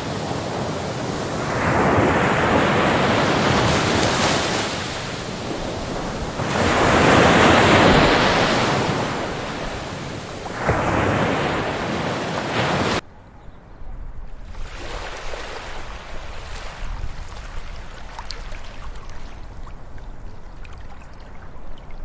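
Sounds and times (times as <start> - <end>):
ocean waves breaking on beach: 0.0 - 13.0, 14.4 - 20.0.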